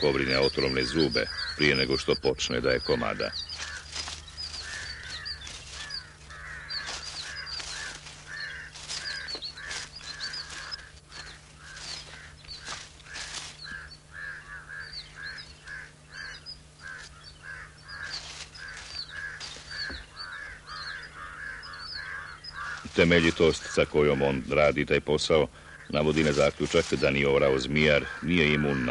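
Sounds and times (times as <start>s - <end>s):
high bird chirps: 0.0s - 24.5s
low hum: 0.0s - 28.2s
birds making harsh calls: 0.0s - 28.9s.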